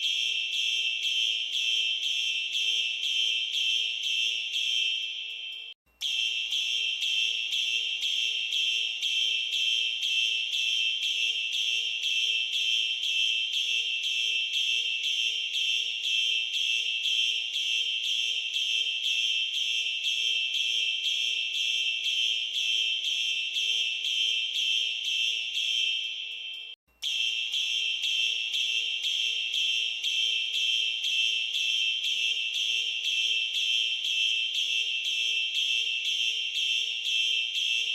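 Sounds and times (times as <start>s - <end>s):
fire alarm pulsing tone: 0.0s - 37.9s.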